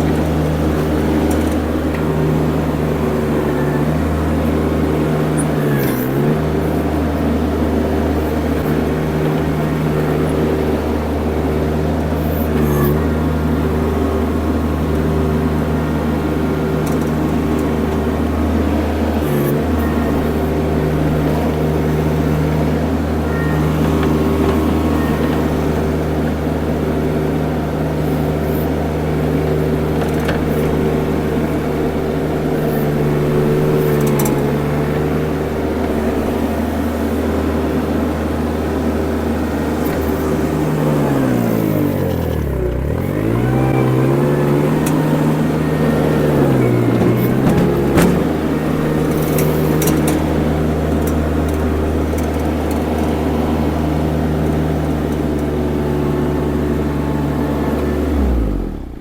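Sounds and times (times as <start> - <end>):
skid steer engine running: 0.0 - 59.0.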